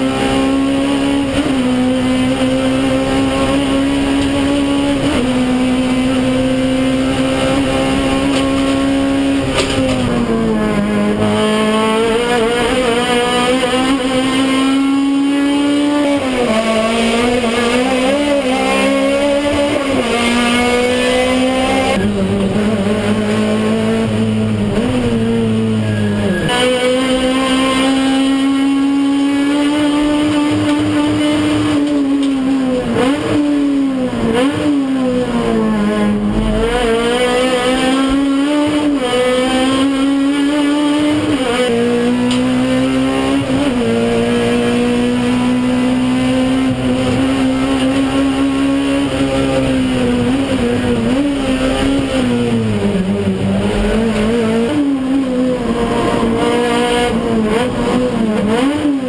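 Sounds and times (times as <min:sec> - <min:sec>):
racing engine at high revs: 0:00.0 - 0:59.0.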